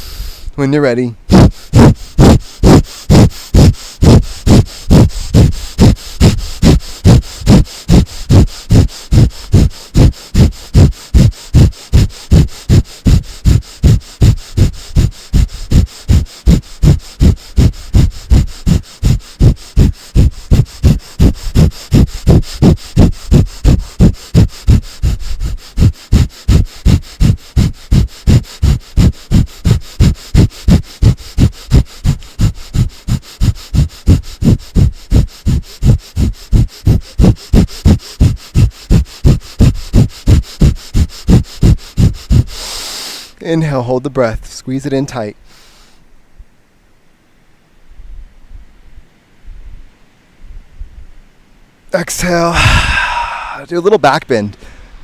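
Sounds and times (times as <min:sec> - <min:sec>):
rapid breathing through nose: 0:00.0 - 0:46.3, 0:52.0 - 0:55.0.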